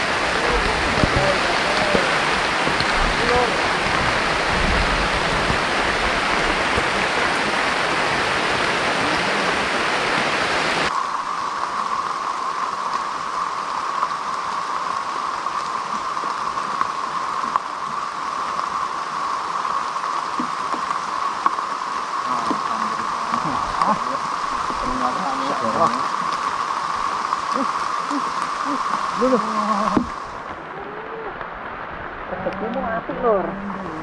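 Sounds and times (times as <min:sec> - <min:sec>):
heavy rain on water and foliage: 0:00.0 - 0:34.0.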